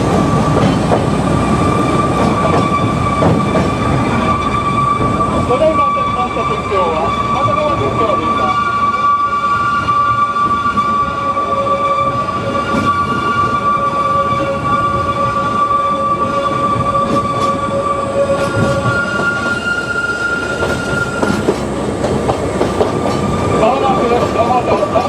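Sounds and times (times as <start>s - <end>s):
train rumble on board: 0.0s - 25.0s
high wheel squeal: 1.4s - 21.6s.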